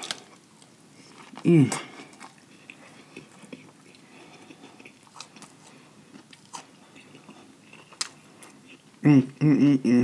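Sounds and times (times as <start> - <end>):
close chewing: 0.0 - 8.9.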